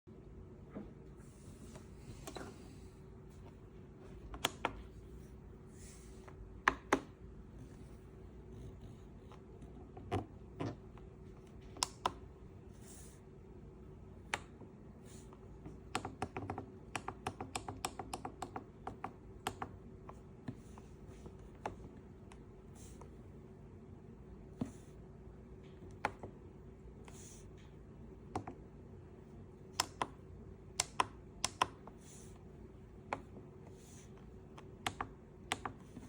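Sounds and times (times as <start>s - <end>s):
faint steady hum: 0.1s - 36.0s.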